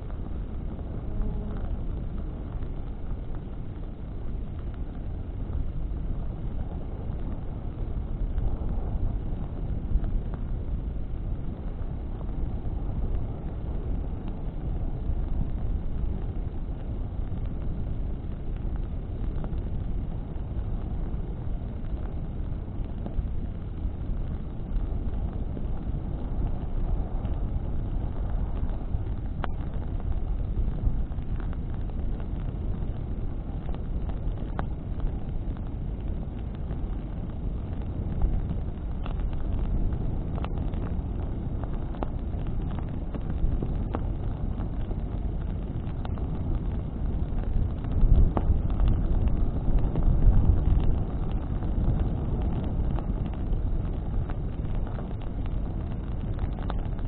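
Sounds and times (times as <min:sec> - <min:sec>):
burning wood crackles: 0:00.0 - 0:57.0
flames and wind rushing: 0:00.0 - 0:57.0.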